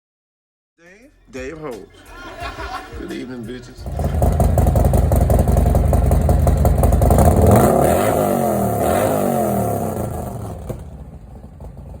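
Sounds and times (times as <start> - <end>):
vehicle engine accelerating: 2.2 - 12.0.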